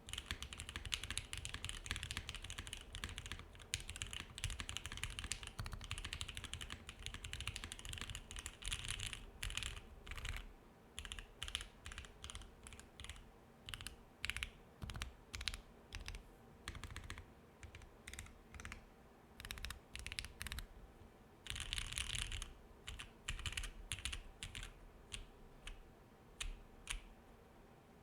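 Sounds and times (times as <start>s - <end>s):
low air conditioner hum: 0.0s - 28.0s
mechanical keyboard typing: 0.1s - 18.8s, 19.4s - 20.7s, 21.5s - 25.8s.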